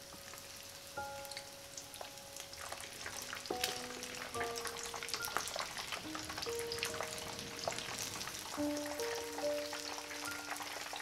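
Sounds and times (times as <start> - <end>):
oil sizzling and popping: 0.0 - 11.0
soft background music: 0.0 - 11.0.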